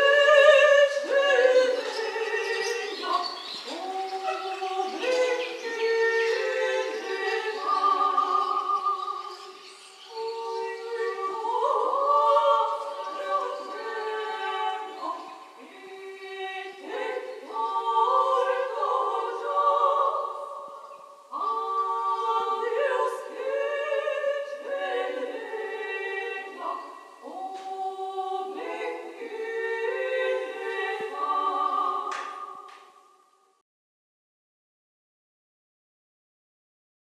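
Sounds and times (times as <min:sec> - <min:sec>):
layered a cappella female singing: 0:00.0 - 0:33.0.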